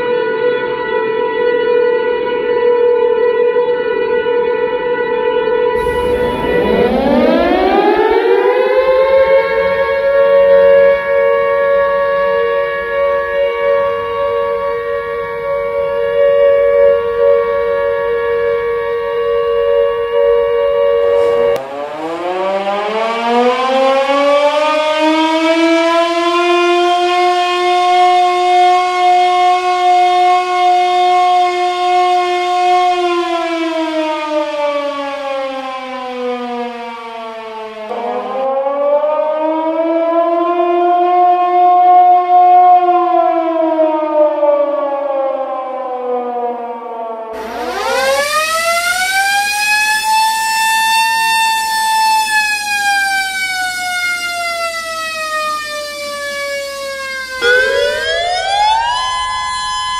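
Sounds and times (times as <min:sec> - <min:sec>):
siren wailing: 0:05.7 - 0:59.9.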